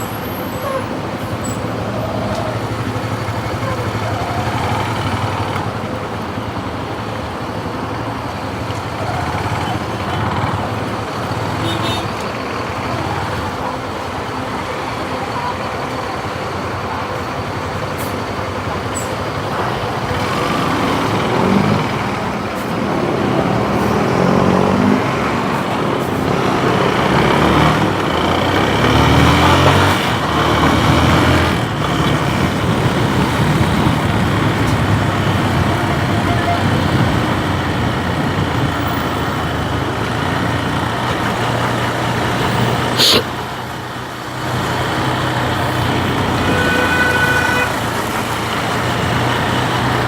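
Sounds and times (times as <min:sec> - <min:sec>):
road traffic rumble: 0:00.0 - 0:50.0
vehicle engine revving: 0:00.8 - 0:13.8, 0:17.7 - 0:50.0.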